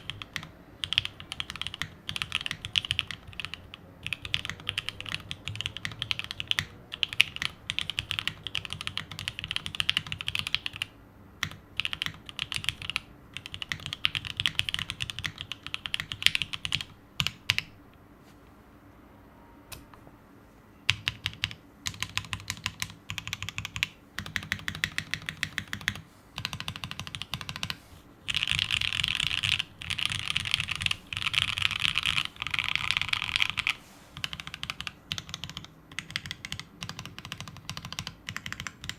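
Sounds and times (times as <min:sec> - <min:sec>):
mechanical keyboard typing: 0:00.0 - 0:17.8, 0:20.9 - 0:38.9.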